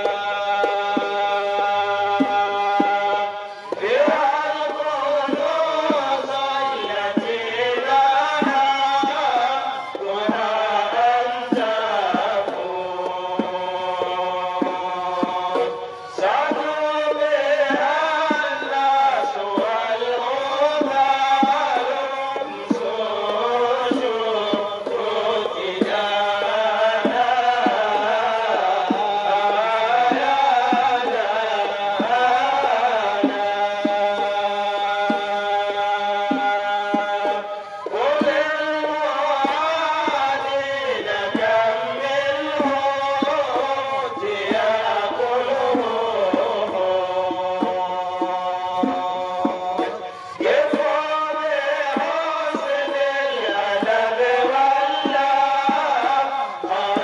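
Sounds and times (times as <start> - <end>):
group of men chanting: 0.0 - 57.0
steady percussive beat: 0.0 - 57.0.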